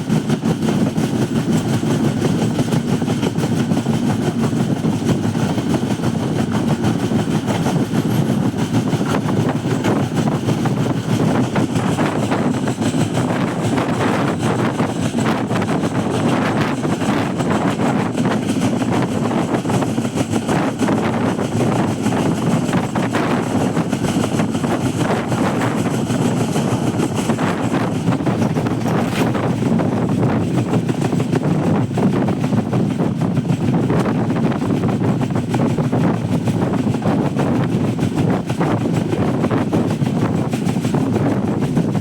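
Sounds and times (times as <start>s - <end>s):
train rumbling on track: 0.0s - 42.0s
wind buffeting microphone: 0.0s - 42.0s.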